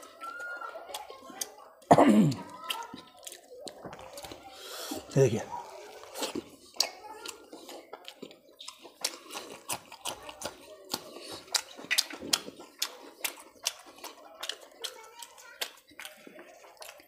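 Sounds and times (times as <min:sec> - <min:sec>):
person chewing with wet mouth sounds: 0:00.0 - 0:17.0.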